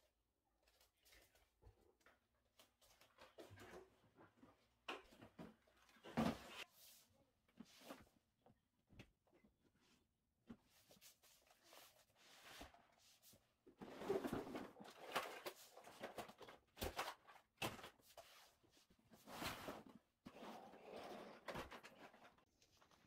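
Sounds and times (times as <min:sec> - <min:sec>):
rustling of books and toys: 0:00.1 - 0:23.0.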